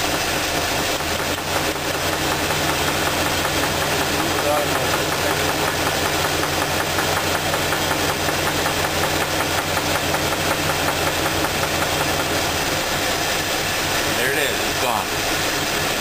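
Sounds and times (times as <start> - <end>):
car engine idling: 0.0 - 16.0
rhythmic engine knock: 0.0 - 16.0.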